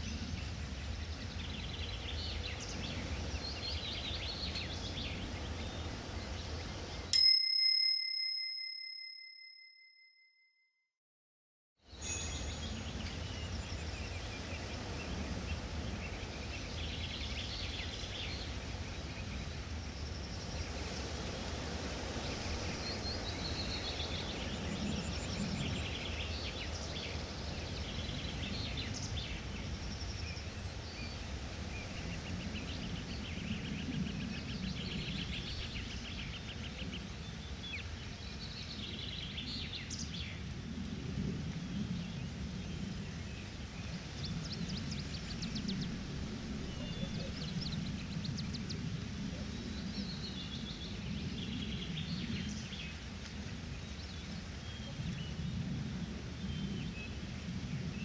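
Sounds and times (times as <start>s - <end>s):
small birds chirping and trilling: 0.0s - 7.1s, 12.0s - 40.5s, 41.6s - 58.0s.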